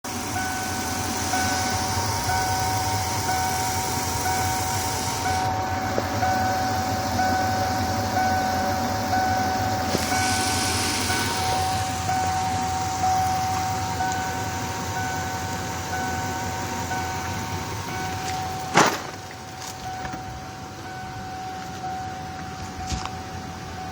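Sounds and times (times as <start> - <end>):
misfiring van engine idling: 0.0 - 23.9
steady high tone: 0.0 - 23.9.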